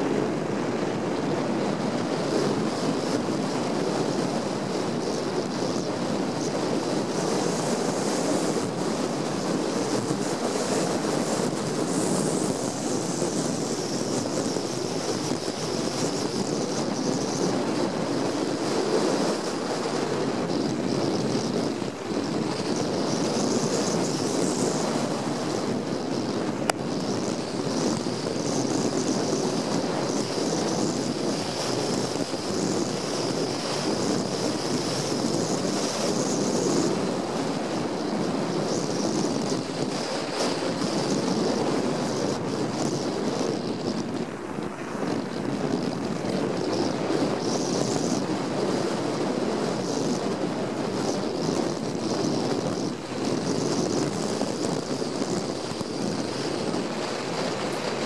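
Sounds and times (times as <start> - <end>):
wind noise on microphone: 0.0 - 58.0
bike tyres rolling over snow: 2.2 - 58.0.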